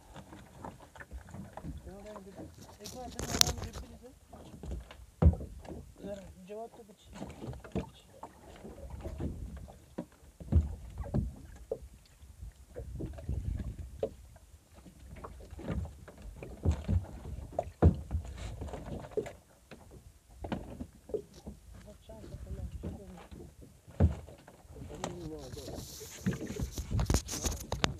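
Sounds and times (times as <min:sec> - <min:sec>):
knocks and thuds on boat: 0:00.0 - 0:27.9
water sloshing against hull: 0:00.0 - 0:27.9.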